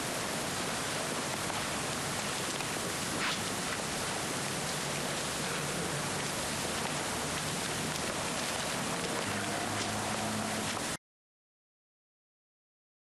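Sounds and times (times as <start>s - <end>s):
steady hissing noise: 0.0s - 11.0s.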